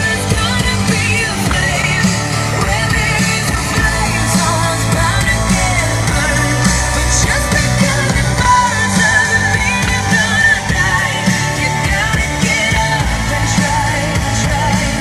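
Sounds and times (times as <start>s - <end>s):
band playing: 0.0s - 14.6s
person singing: 0.0s - 15.0s.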